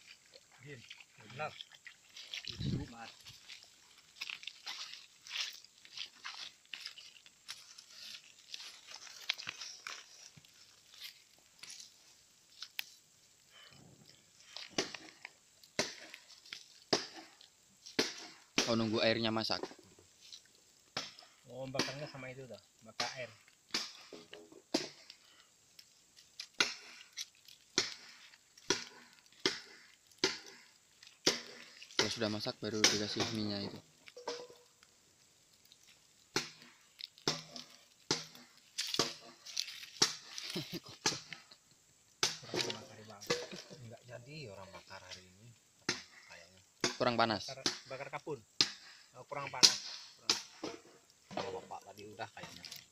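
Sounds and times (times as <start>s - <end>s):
small fire crackling: 0.0s - 52.9s.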